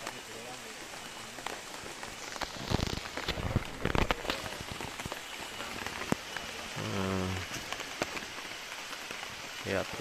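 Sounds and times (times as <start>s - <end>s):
heavy rain: 0.0s - 10.0s
raindrops ticking on metal roof: 0.0s - 10.0s.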